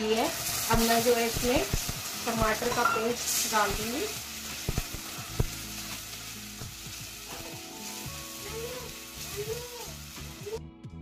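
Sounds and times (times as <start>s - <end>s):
paste sizzling in hot oil: 0.0s - 10.6s.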